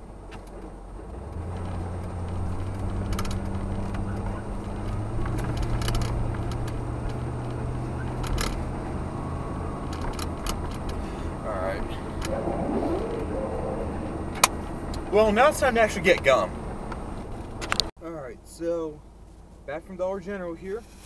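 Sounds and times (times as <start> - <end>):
truck engine running: 0.0 - 17.8.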